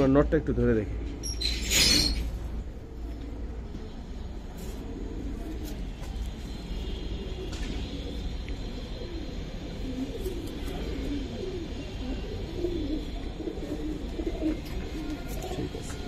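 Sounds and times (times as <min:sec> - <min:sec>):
pigeon cooing: 0:01.9 - 0:16.0.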